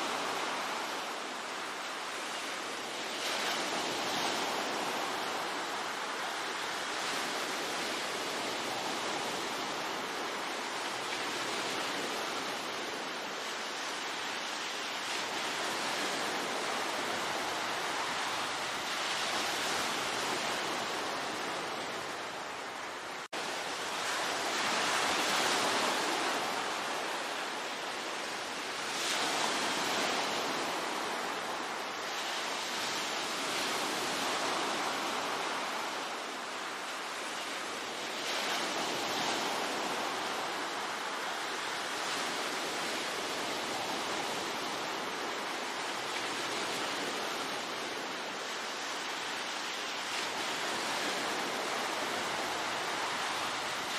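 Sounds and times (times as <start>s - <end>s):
ocean waves washing onto shore: 0.0s - 53.9s.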